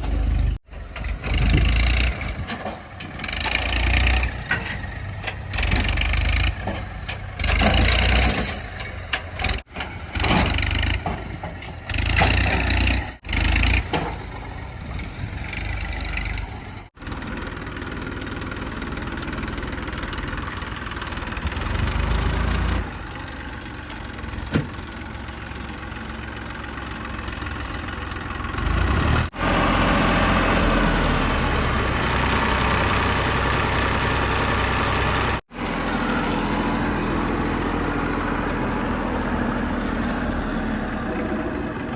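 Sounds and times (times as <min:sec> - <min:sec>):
heavy diesel engine revving: 0:00.0 - 0:23.5, 0:25.8 - 0:41.9.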